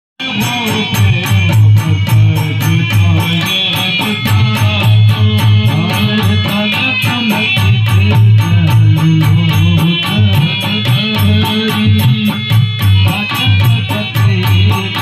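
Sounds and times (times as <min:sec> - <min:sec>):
dholak drumming: 0:00.2 - 0:15.0.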